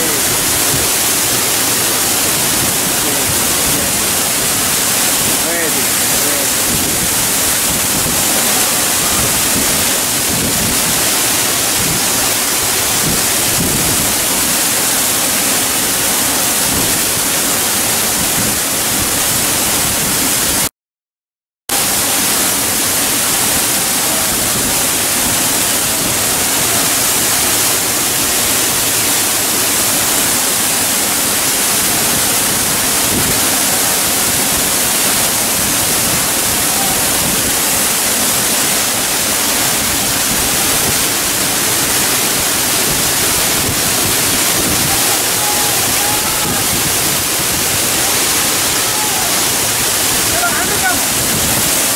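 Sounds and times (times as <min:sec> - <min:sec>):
waterfall rushing: 0:00.0 - 0:20.7, 0:21.7 - 0:51.9.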